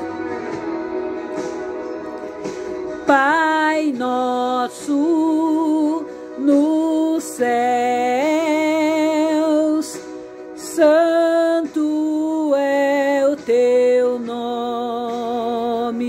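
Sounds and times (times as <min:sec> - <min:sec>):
woman singing a hymn: 0:03.0 - 0:16.0.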